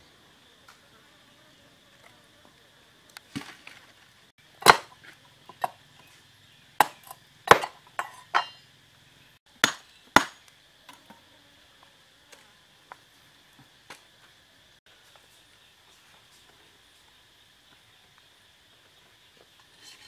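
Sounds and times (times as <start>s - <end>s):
high insect buzz: 0.0s - 20.0s.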